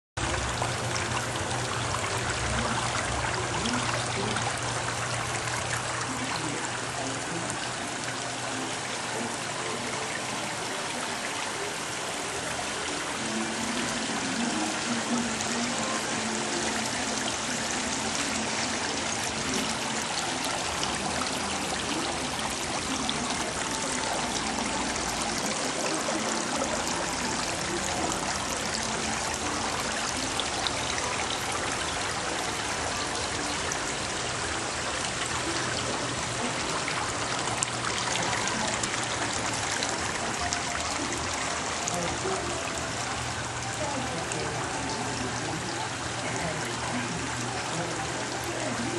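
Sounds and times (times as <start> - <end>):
water splashing and trickling: 0.2 - 48.9.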